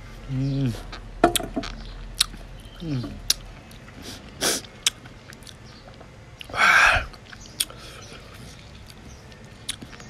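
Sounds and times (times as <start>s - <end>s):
man chewing with wet clicks: 0.8s - 10.0s.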